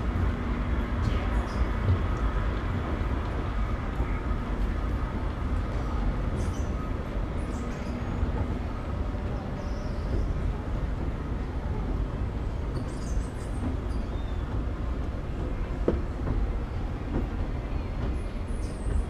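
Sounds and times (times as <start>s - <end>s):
escalator low rumble: 0.0s - 19.0s.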